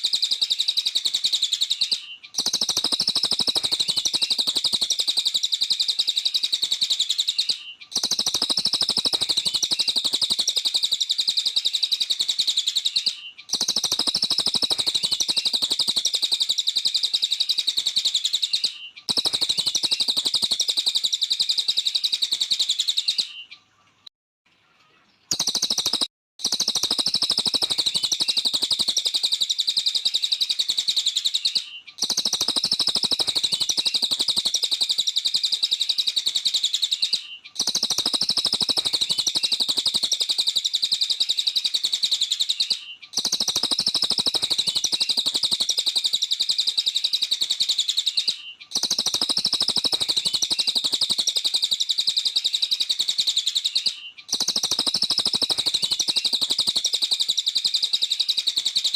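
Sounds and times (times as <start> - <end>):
songbird chattering trill: 0.0 - 23.7, 25.3 - 58.9.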